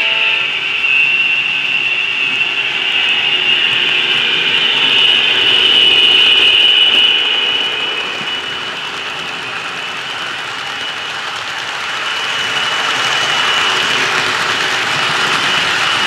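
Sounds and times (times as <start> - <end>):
model locomotive motor whine: 0.0 - 16.0
model freight cars rattling: 1.0 - 16.0.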